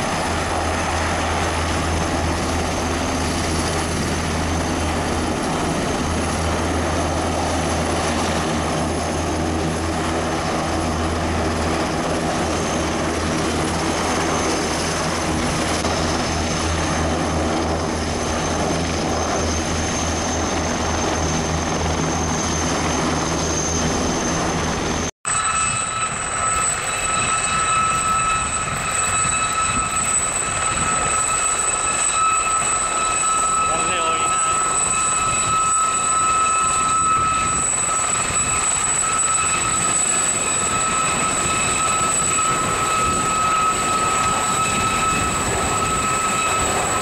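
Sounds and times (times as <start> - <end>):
aircraft engines droning: 0.0 - 47.0
high-pitched engine whine: 0.0 - 47.0.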